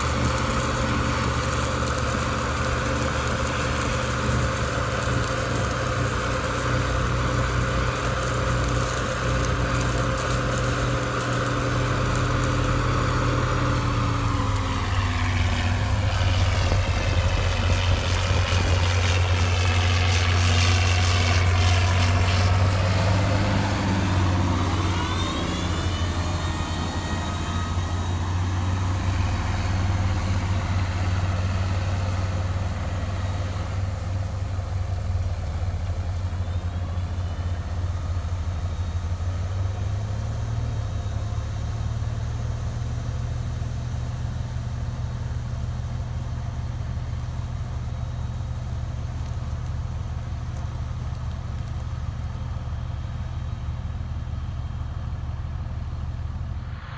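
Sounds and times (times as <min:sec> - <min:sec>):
tractor diesel engine droning: 0:00.0 - 0:56.9.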